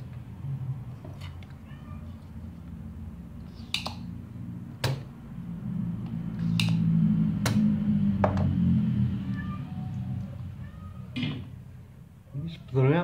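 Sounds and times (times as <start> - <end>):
low hum: 1.7 - 12.1.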